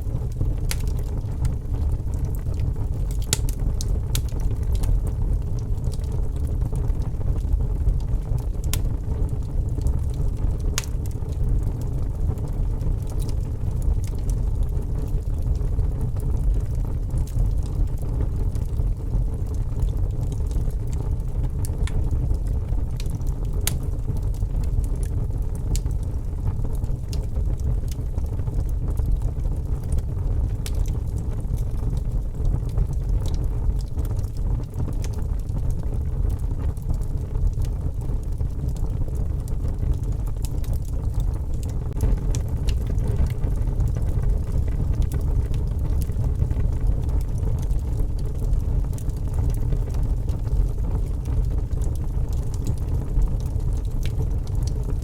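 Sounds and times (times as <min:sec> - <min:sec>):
steady low rumble: 0:00.0 - 0:55.0
wood fire crackling: 0:00.0 - 0:55.0.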